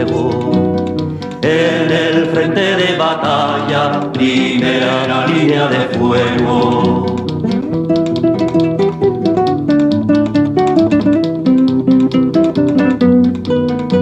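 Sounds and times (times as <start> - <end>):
acoustic guitar plucked melody: 0.0 - 14.0.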